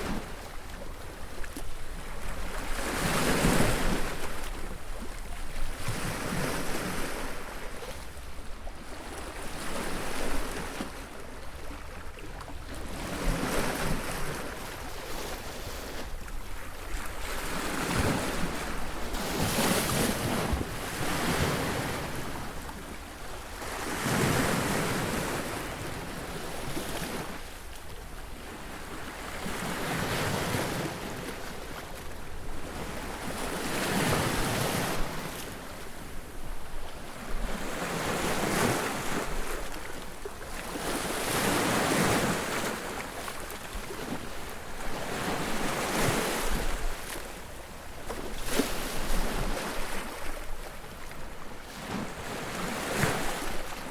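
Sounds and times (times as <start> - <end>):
sea waves breaking on beach: 0.0 - 8.1, 12.7 - 53.9.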